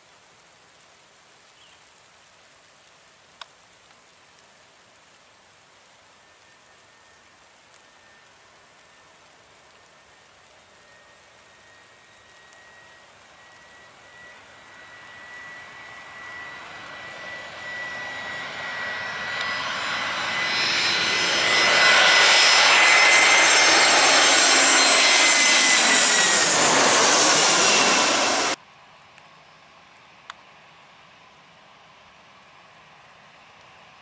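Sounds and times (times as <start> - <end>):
airliner engine whine passing overhead: 6.2 - 34.0.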